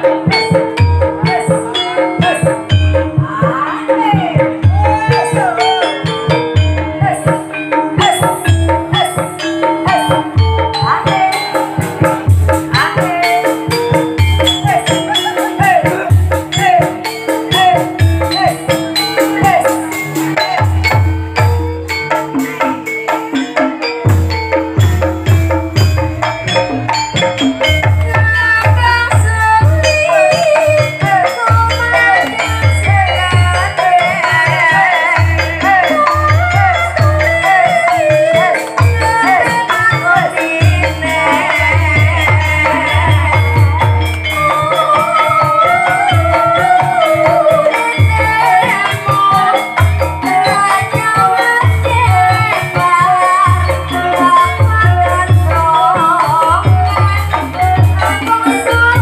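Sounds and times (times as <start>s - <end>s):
rattling percussion: 0.0s - 59.0s
wooden xylophone melody: 0.0s - 59.0s.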